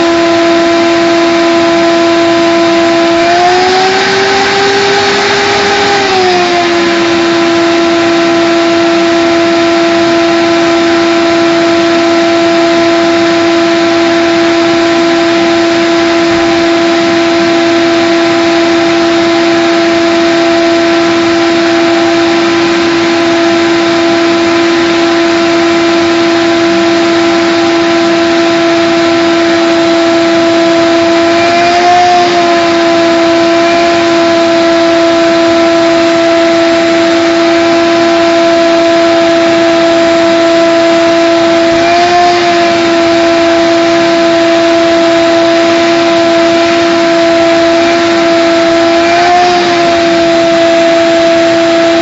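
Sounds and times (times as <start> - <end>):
vacuum cleaner motor whining: 0.0 - 52.0.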